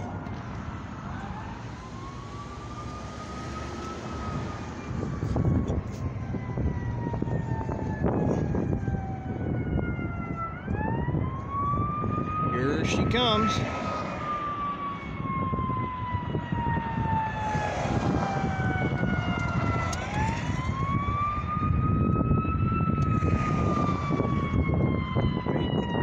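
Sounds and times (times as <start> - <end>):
fire engine siren wailing: 0.0 - 26.0
low traffic rumble: 0.0 - 26.0.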